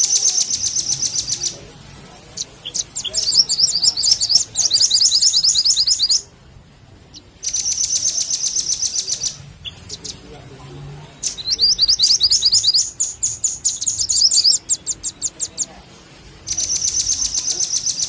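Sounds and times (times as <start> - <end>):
high sharp bird chirps: 0.0 - 1.7, 2.3 - 6.3, 7.0 - 10.3, 11.1 - 18.0.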